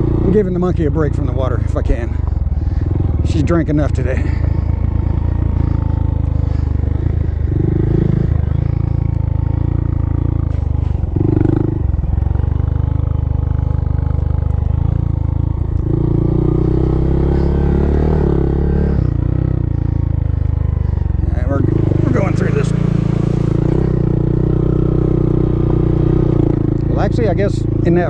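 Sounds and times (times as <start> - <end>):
small motorcycle engine revving: 0.0 - 28.0.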